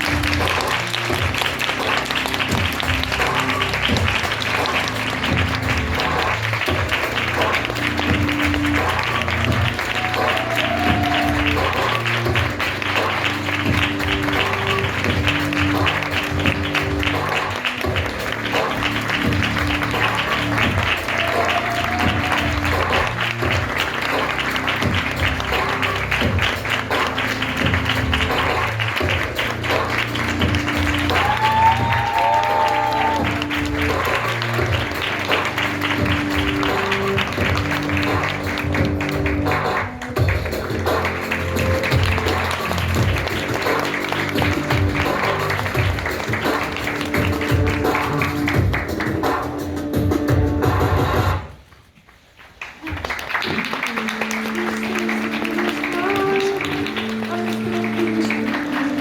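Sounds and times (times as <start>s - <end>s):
audience applauding: 0.0s - 49.8s, 51.9s - 59.0s
stage musical instrumental music: 0.0s - 51.6s, 53.3s - 59.0s.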